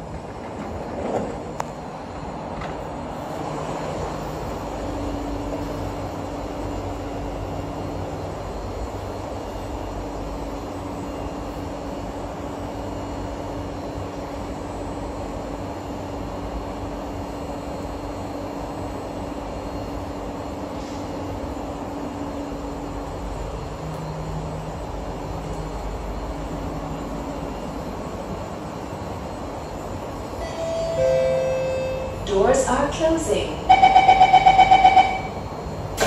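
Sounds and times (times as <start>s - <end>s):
train ventilation hum and rushing: 0.0s - 36.0s.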